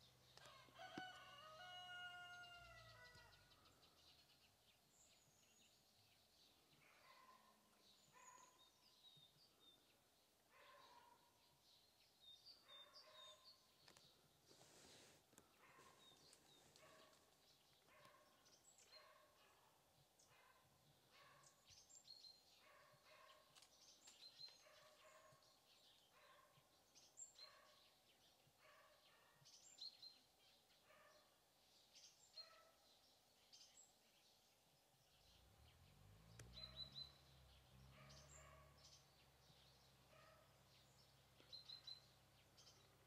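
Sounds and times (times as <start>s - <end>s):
faint birds chirping: 0.0s - 43.0s.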